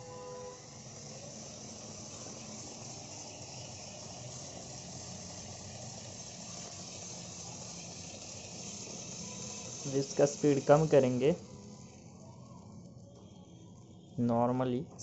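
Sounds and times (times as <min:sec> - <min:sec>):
motor driving conveyor belt whirring: 0:00.0 - 0:13.6.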